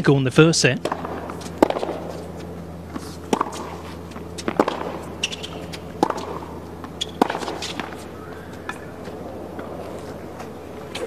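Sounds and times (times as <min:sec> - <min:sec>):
low steady hum: 0:00.0 - 0:11.0
tennis ball hits: 0:00.8 - 0:11.0.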